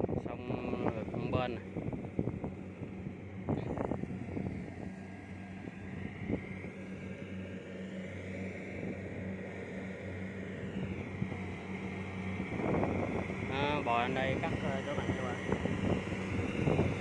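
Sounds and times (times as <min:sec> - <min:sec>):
combine harvester engine hum: 0:00.0 - 0:17.0
high whine: 0:00.0 - 0:17.0.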